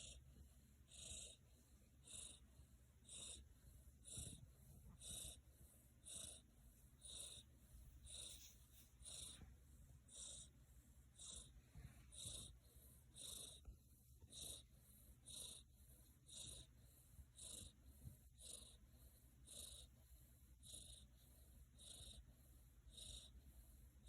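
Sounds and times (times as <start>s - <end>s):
cat snoring: 0.0s - 24.0s.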